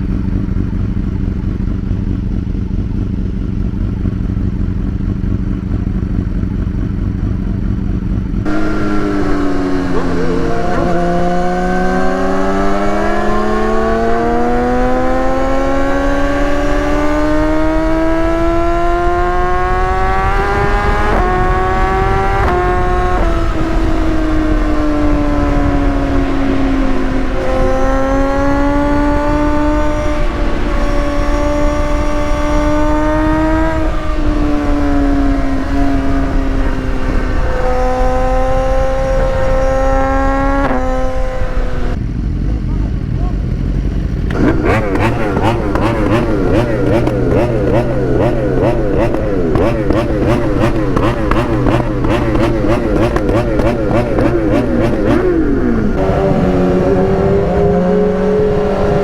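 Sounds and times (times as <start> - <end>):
engine pulling hard: 0.0 - 59.0
gear changes: 0.0 - 59.0.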